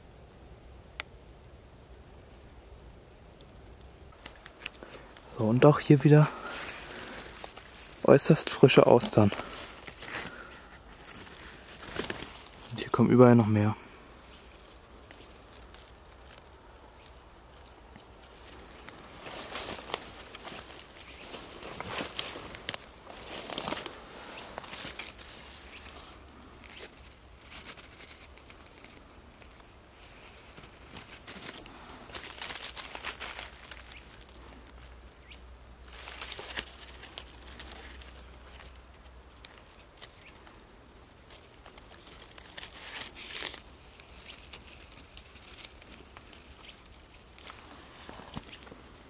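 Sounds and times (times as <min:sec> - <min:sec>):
dry leaves rustling: 0:04.1 - 0:49.0.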